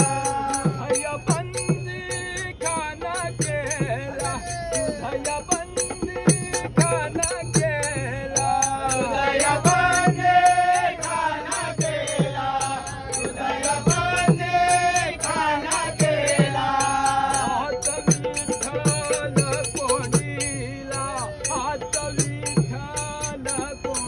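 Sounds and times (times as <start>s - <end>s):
hand cymbals striking a beat: 0.0s - 24.0s
men singing together: 0.0s - 24.0s.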